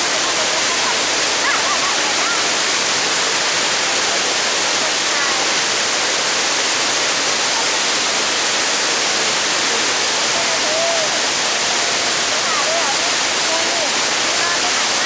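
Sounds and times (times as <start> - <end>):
water torrent crashing from dam: 0.0 - 15.0.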